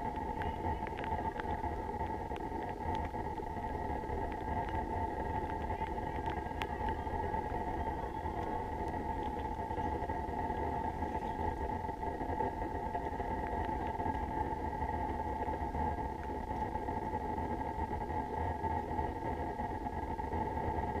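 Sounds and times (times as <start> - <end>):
low rumble of wind on microphone: 0.0 - 21.0.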